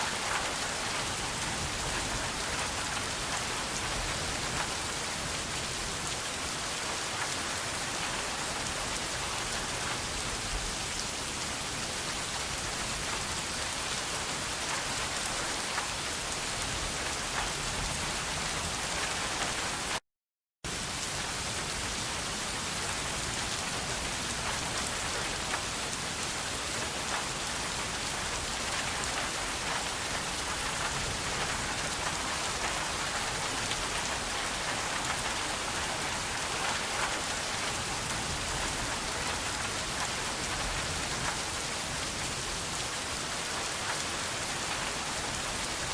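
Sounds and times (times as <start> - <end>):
rain pattering on surfaces: 0.0 - 20.0, 20.7 - 45.9.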